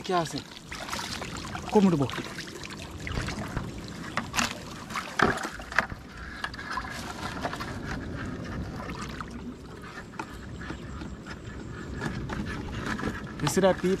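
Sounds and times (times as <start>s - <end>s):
river water sloshing and splashing: 0.0s - 14.0s.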